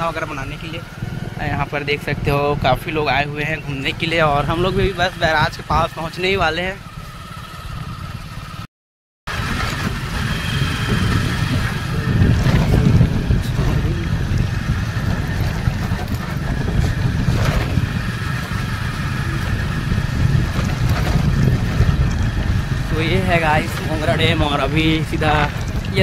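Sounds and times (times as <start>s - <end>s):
wind rumble on microphone: 0.0s - 8.6s, 9.3s - 26.0s
motorcycle engine running: 0.0s - 8.7s, 9.3s - 26.0s.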